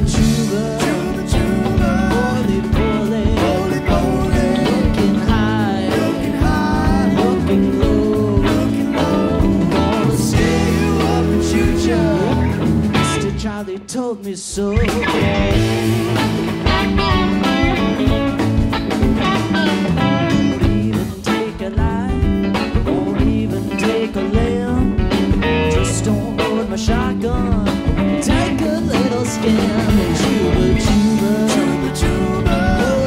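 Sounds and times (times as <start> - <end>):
electric guitar bending notes: 0.0 - 13.6, 14.8 - 33.0
live rock band playing: 0.0 - 33.0.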